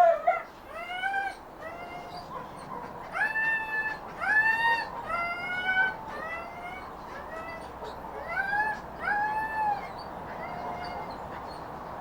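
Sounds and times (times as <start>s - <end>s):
dog whining: 0.0s - 11.2s.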